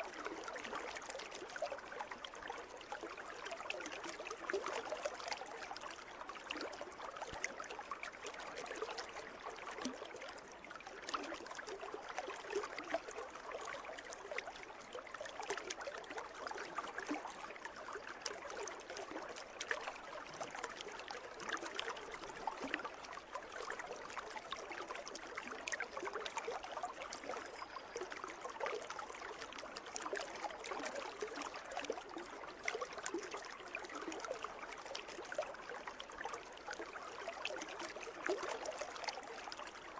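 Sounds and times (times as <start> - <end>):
water splashing in a pool: 0.0 - 39.9.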